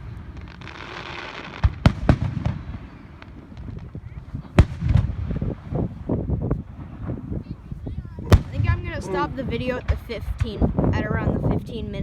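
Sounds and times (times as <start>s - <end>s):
low rumbling: 1.9s - 12.0s.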